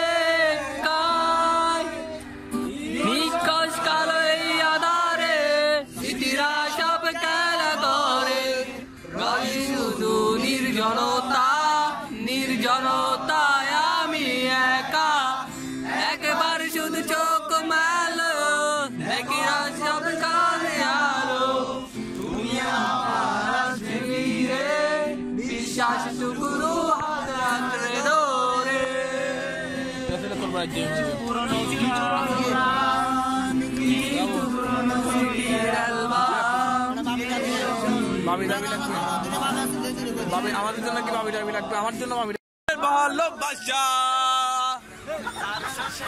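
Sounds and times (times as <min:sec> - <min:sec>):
men singing in unison: 0:00.0 - 0:42.1
strummed acoustic guitar: 0:00.0 - 0:42.4.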